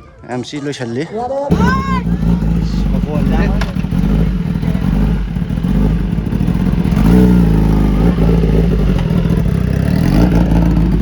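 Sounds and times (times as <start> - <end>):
motorcycle engine running: 1.5 - 11.0.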